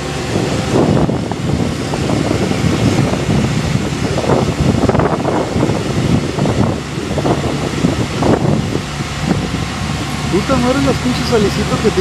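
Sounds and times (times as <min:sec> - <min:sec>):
boat hoist engine running: 0:00.0 - 0:12.0
wind buffeting microphone: 0:00.0 - 0:12.0.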